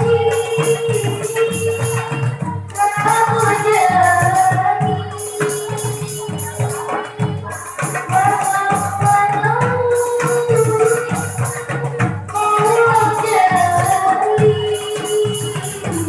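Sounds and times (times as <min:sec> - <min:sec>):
girl singing: 0:00.0 - 0:16.0
hand drums beating: 0:00.0 - 0:16.0
jingling percussion: 0:00.0 - 0:16.0.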